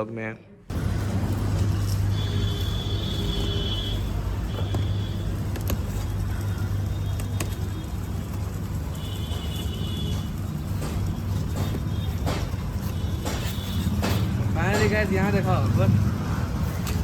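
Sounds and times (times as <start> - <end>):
vehicle engine humming: 0.7 - 17.0.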